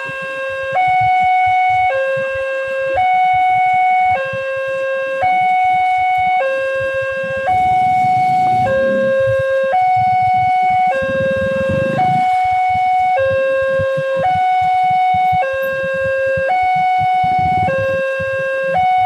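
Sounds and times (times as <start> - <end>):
two-tone crossing warning alarm: 0.0 - 19.0.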